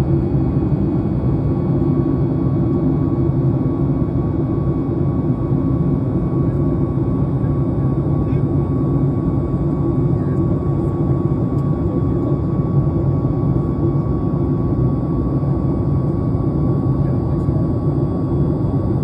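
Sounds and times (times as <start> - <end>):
aircraft cabin engine roar: 0.0 - 19.0.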